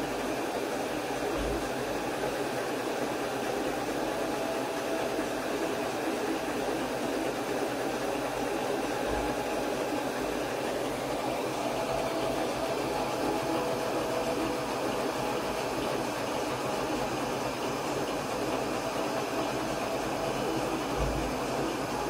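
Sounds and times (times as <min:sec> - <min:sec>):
laser cutter hiss and hum: 0:00.0 - 0:22.0.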